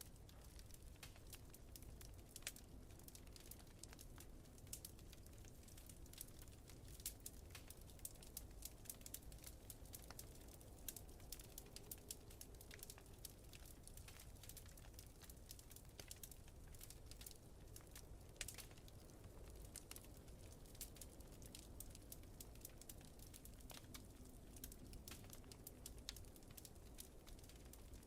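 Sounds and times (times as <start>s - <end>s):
faint wood fire crackling: 0.0s - 28.0s.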